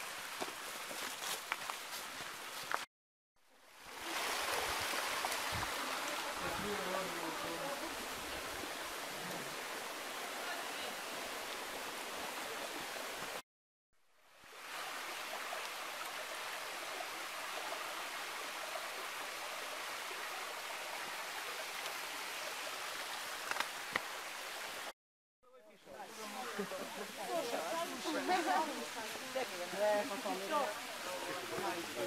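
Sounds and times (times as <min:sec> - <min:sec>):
stream rushing over rocks: 0:00.0 - 0:02.9, 0:03.6 - 0:13.4, 0:14.4 - 0:24.9, 0:25.9 - 0:32.0.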